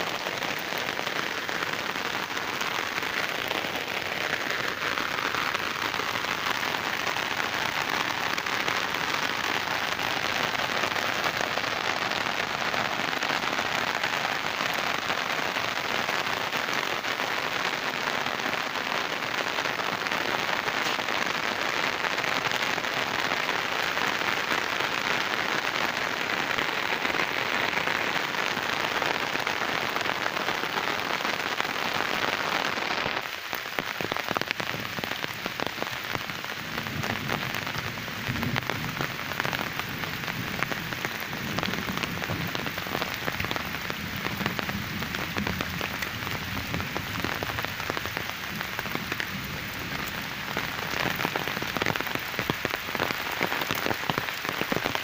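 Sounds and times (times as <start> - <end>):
heavy rain on a pond: 0.0 - 55.0.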